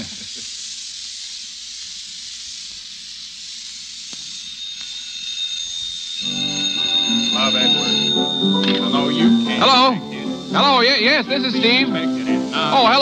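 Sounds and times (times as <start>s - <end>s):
radio recording hiss: 0.0s - 13.0s.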